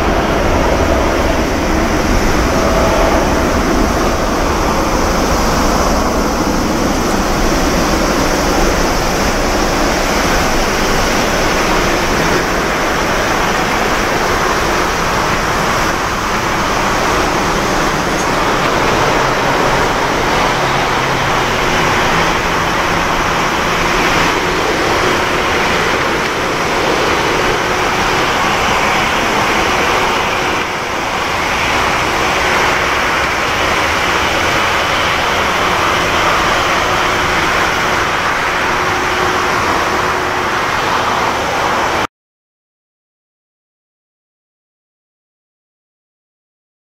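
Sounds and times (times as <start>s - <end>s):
jet engines at takeoff: 0.0s - 42.1s.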